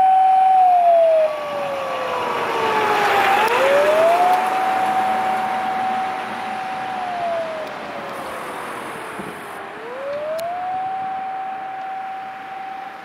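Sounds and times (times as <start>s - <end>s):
fire engine siren wailing: 0.0s - 13.0s
road traffic noise: 0.0s - 13.0s
second siren tone: 0.0s - 13.0s.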